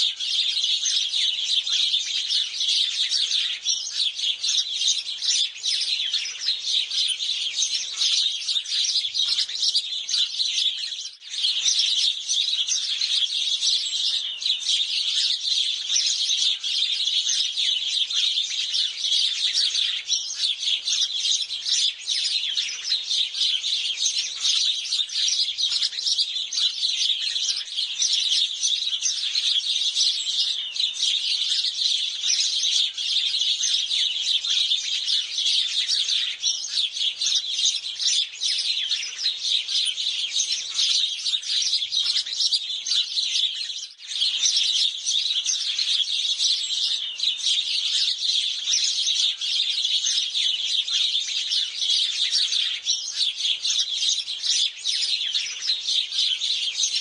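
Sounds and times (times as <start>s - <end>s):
flock of sparrows chirping: 0.0s - 57.0s.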